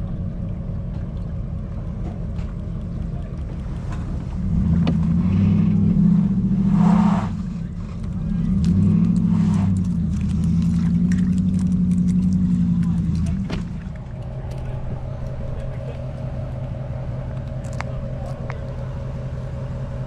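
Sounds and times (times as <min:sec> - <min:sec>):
boat motor droning: 0:00.0 - 0:20.0.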